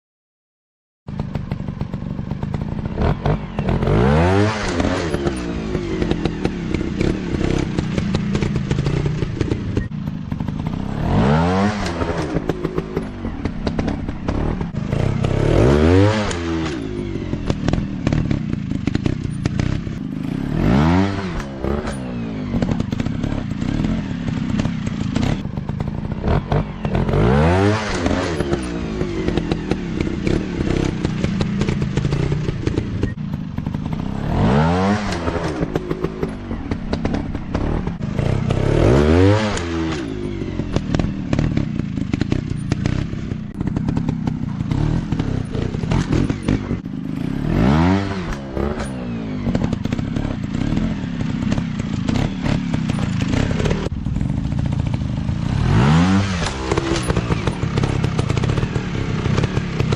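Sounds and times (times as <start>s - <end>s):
dirt bike engine revving: 1.1s - 59.9s
drone of dirt bikes: 1.1s - 59.9s.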